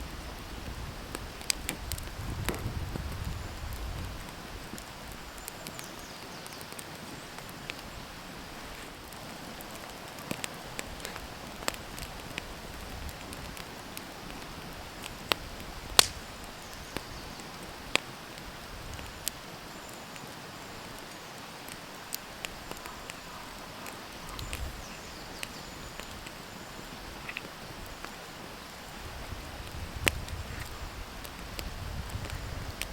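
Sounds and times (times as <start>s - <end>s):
campfire crackling and popping: 0.0s - 32.9s
steady hiss: 0.0s - 32.9s.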